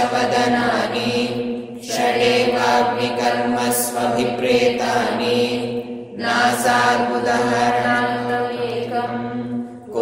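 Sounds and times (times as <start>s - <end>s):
person chanting: 0.0s - 10.0s.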